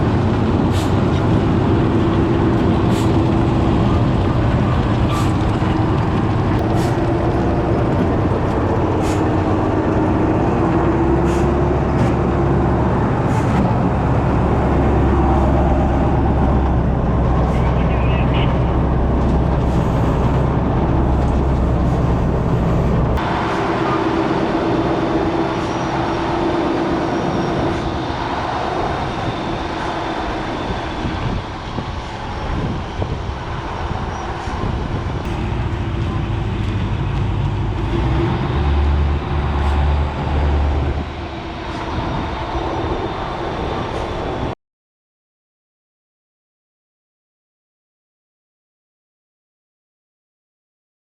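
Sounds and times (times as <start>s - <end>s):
diesel machinery running: 0.0s - 44.6s.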